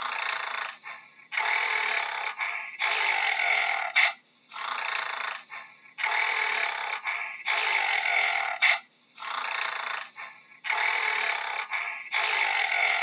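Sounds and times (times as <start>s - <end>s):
gorilla breathing heavily: 0.0s - 13.0s.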